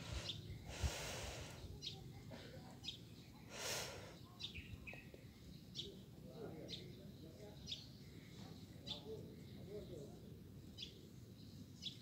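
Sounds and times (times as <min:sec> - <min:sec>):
faint outdoor background noise: 0:00.0 - 0:12.0
small birds chirping: 0:00.0 - 0:12.0.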